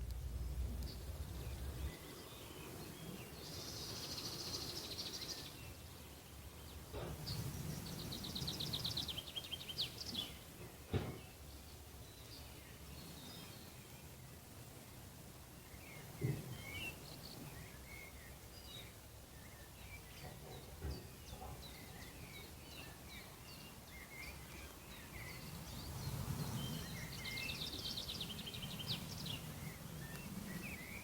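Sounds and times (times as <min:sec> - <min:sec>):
low steady background noise: 0:00.0 - 0:31.0
songbirds singing: 0:00.0 - 0:31.0.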